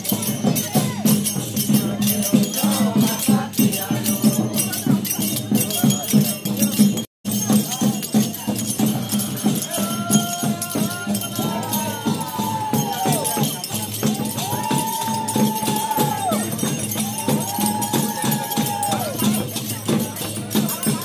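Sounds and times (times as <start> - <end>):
rattling jingling percussion: 0.0 - 21.0.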